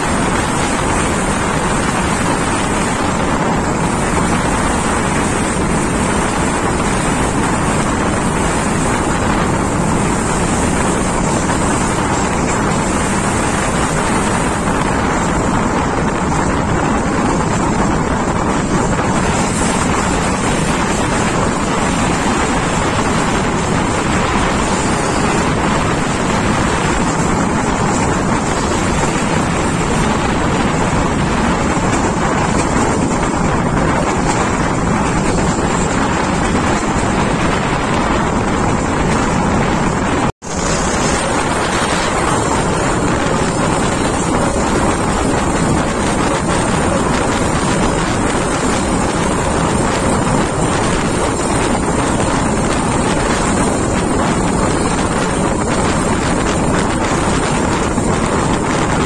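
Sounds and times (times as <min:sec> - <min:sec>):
train running on track: 0:00.0 - 0:59.0
wind buffeting microphone: 0:00.0 - 0:59.0.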